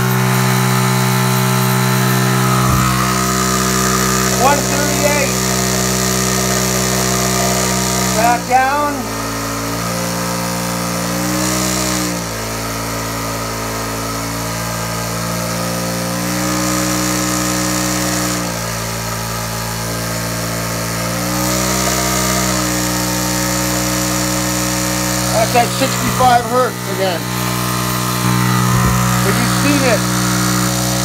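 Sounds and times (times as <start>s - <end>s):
generator humming: 0.0s - 31.0s.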